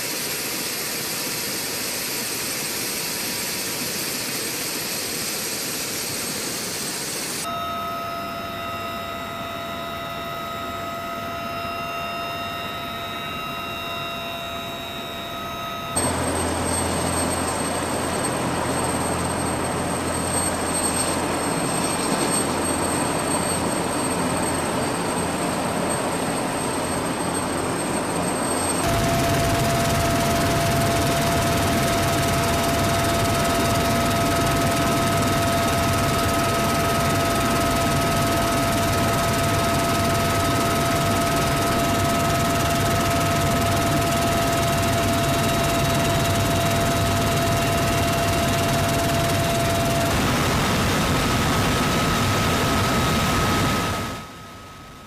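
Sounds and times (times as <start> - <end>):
helicopter in flight: 0.0 - 55.0
high whine: 0.0 - 55.0.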